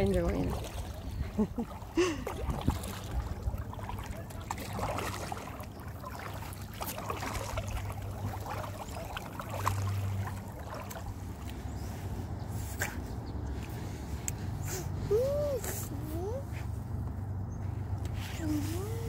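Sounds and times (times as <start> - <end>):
paddle dipping and dripping: 0.0 - 19.0
water trickling and splashing: 0.0 - 19.0.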